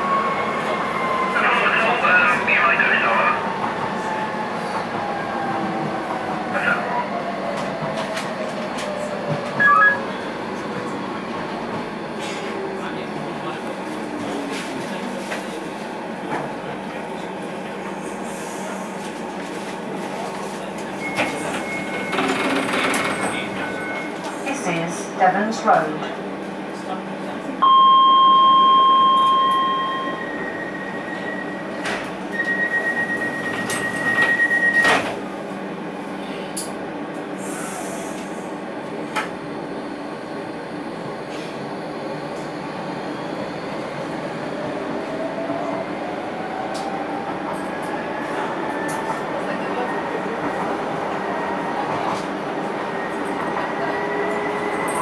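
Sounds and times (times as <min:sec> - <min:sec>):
train rolling rumble: 0:00.0 - 0:27.6, 0:29.2 - 0:55.0.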